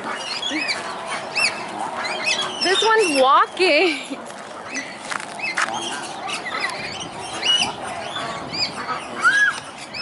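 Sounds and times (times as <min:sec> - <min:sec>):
birds chirping and squawking: 0:00.0 - 0:10.0.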